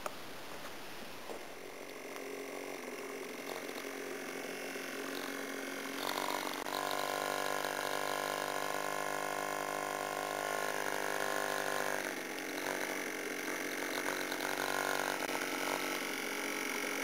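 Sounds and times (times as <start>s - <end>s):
outboard motor running: 1.3s - 17.0s.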